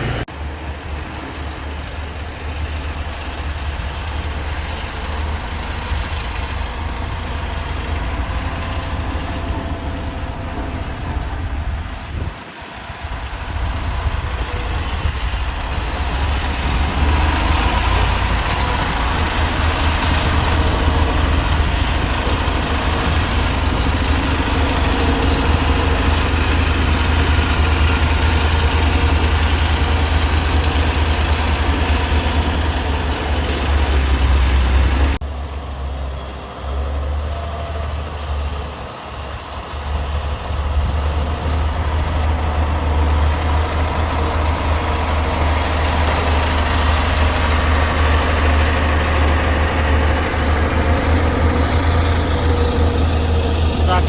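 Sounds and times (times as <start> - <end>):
diesel machinery engine rumbling: 0.0 - 54.0.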